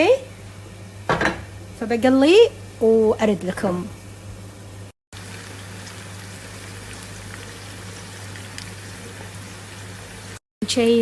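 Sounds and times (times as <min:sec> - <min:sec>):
food sizzling and bubbling in pot: 0:00.2 - 0:11.0.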